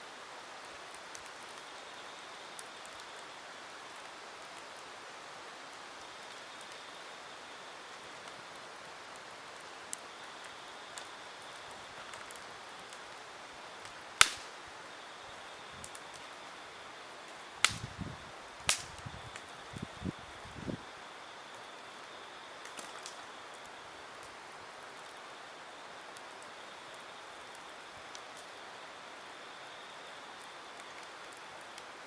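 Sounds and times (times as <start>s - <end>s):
campfire hissing and crackling: 0.0s - 32.0s.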